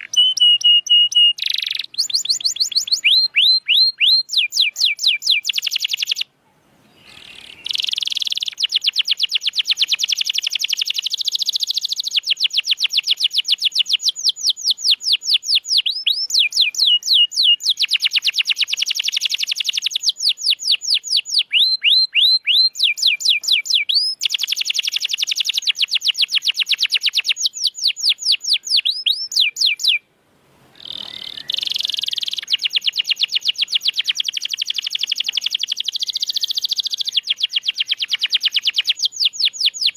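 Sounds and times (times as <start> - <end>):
canary singing trills: 0.0 - 30.0, 30.7 - 39.9.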